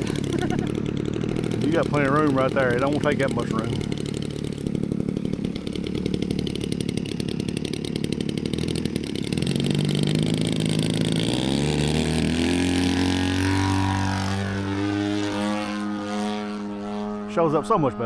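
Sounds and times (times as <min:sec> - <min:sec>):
model airplane engine running: 0:00.0 - 0:18.0.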